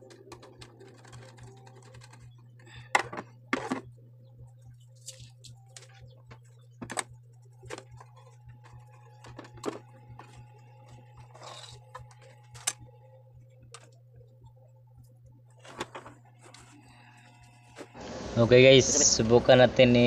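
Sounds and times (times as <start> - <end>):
parts and cords clicking: 0.0 - 18.0
steady low hum: 0.0 - 20.0.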